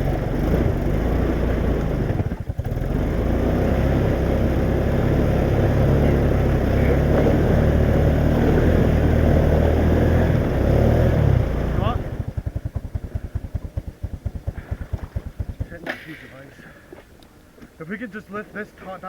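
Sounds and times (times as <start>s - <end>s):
atv engine running: 0.0s - 16.8s.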